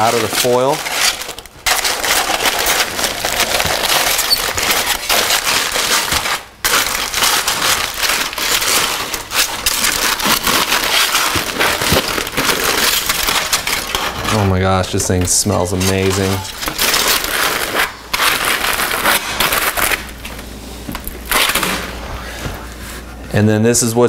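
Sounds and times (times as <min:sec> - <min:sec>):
aluminum foil crinkling: 0:00.0 - 0:22.0.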